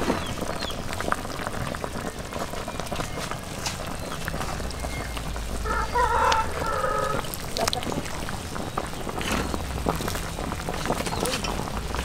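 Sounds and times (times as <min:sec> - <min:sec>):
curry boiling and bubbling: 0:00.0 - 0:12.0.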